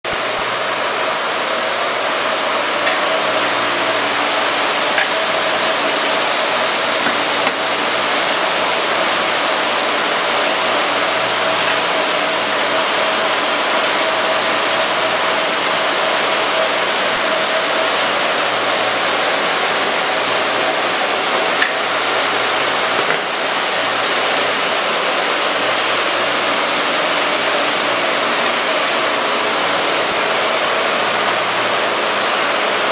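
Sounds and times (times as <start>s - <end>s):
surface grinder rushing and humming: 0.1s - 32.9s.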